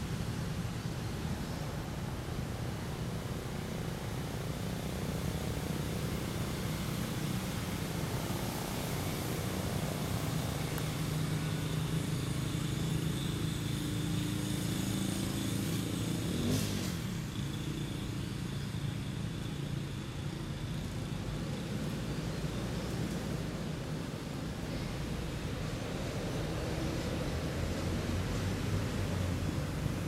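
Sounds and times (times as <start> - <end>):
engine-like drone: 0.0 - 30.0.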